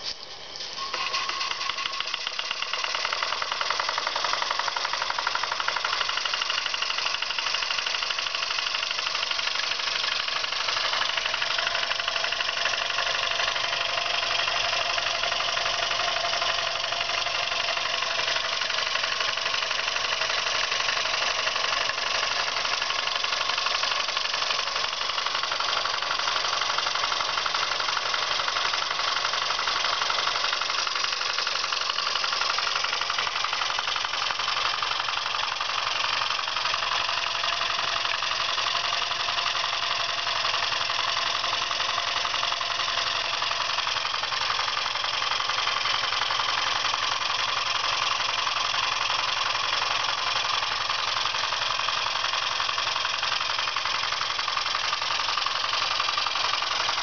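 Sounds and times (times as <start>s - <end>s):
steam engine running: 0.0s - 57.0s.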